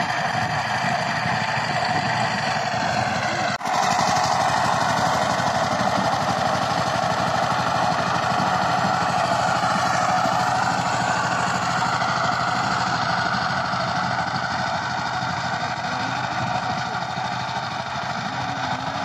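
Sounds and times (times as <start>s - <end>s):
diesel engine putter: 0.0s - 19.0s.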